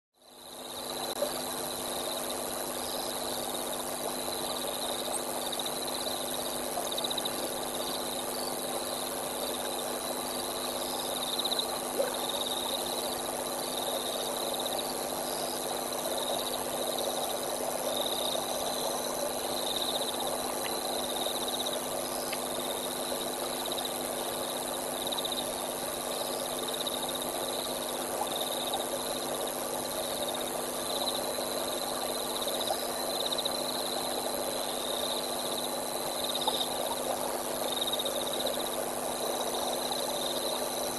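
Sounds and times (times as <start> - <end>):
frogs croaking: 0.2 - 40.9
insects chirping: 0.2 - 40.9.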